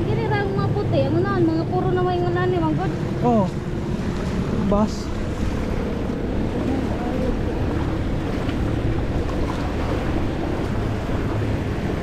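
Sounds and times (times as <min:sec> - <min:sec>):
continuous low rumble: 0:00.0 - 0:12.0
wind buffeting microphone: 0:00.0 - 0:12.0.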